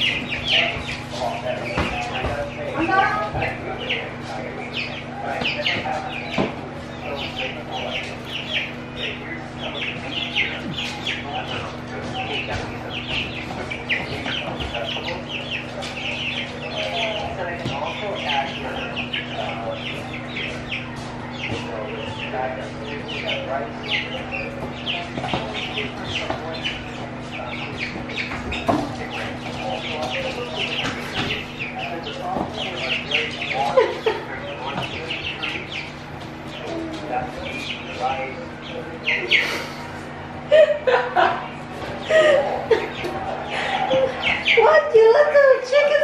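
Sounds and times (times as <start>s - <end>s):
chicks peeping: 0.0s - 46.0s
steady low hum: 0.0s - 46.0s.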